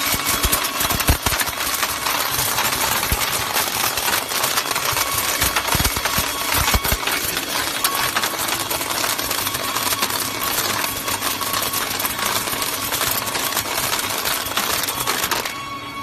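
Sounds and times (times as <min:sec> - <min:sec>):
stone granules rattling into crate: 0:00.0 - 0:15.6.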